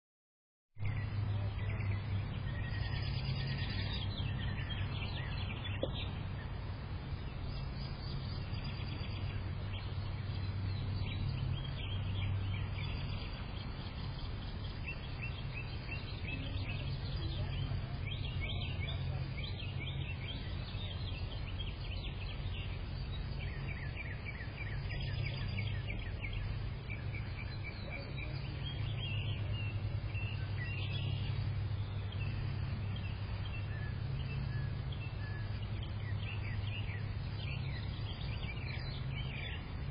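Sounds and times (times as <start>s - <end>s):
low background hum: 0.8s - 39.9s
songbirds chirping: 0.8s - 39.9s.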